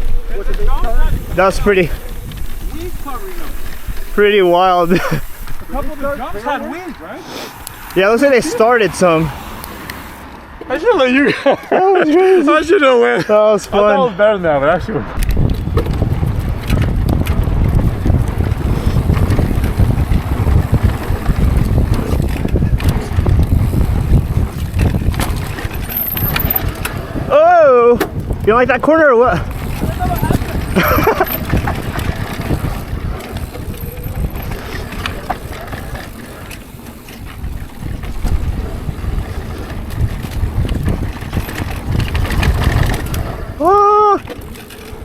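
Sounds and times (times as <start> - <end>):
bike clicks and knocks: 0.0 - 8.2, 15.2 - 28.8, 29.4 - 43.6, 44.2 - 45.0
tyre noise on dirt: 0.0 - 10.8, 15.1 - 45.0
wind buffeting microphone: 0.0 - 11.4, 13.7 - 45.0.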